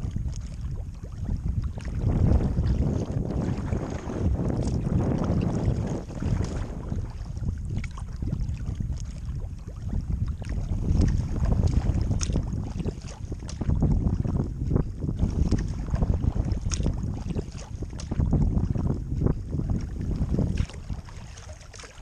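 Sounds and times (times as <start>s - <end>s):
gusty wind on microphone: 0.0s - 22.0s
water splashing against kayak hull: 0.0s - 22.0s.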